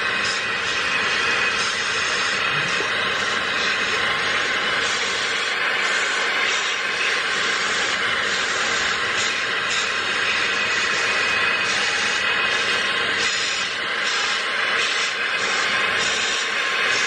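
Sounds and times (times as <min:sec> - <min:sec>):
handheld vacuum running: 0:00.0 - 0:17.0.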